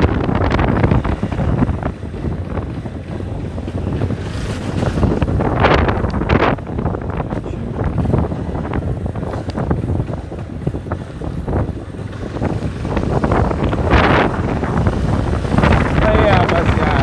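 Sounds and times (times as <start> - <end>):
loud rumbling noise: 0.0 - 17.0
wind buffeting microphone: 0.0 - 17.0.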